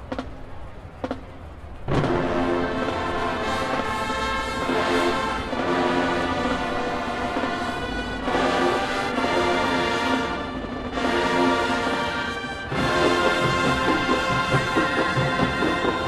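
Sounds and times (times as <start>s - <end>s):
marching band brass chords: 1.0s - 16.0s.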